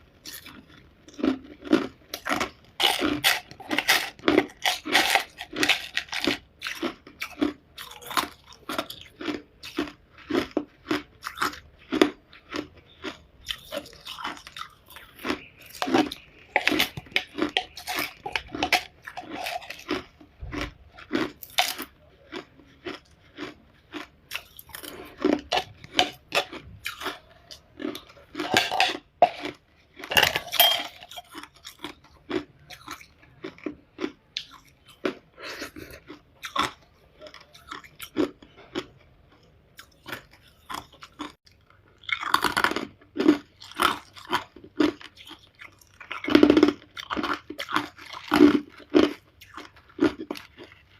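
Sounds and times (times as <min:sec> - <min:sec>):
ice being chewed: 0:00.0 - 0:50.9.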